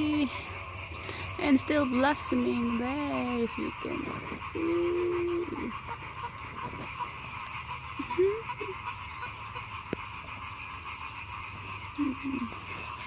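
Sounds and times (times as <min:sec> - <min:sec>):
frogs croaking: 0:00.0 - 0:13.0
low wavering sounds: 0:00.0 - 0:13.0.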